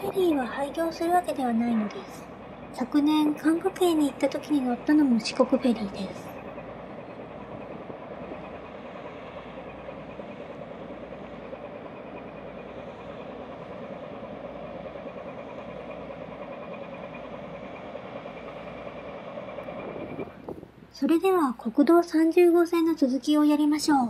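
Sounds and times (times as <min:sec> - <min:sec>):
ship diesel engines droning: 0:00.0 - 0:24.0.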